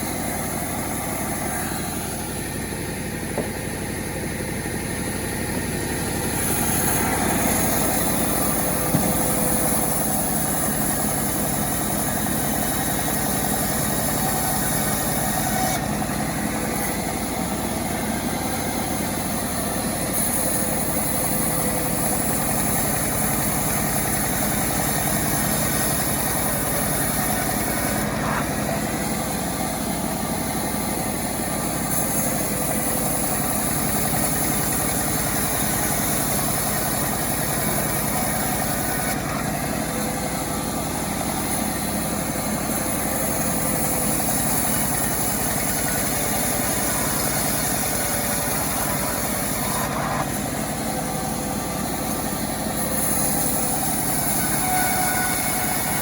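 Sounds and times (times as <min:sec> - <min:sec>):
chainsaw running: 0:00.0 - 0:56.0.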